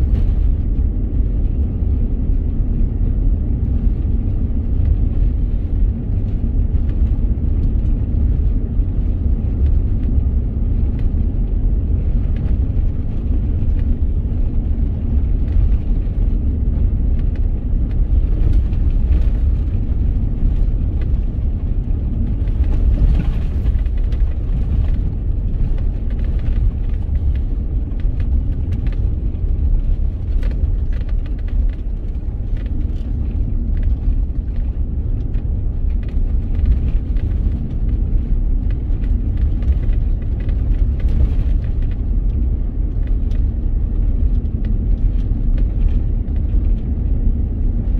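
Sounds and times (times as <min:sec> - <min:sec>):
tyres rumbling on gravel road: 0:00.0 - 0:47.9.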